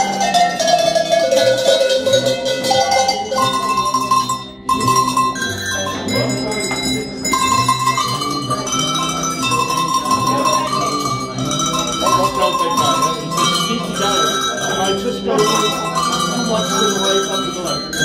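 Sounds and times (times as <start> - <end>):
handbells playing a melody: 0.0 - 18.0.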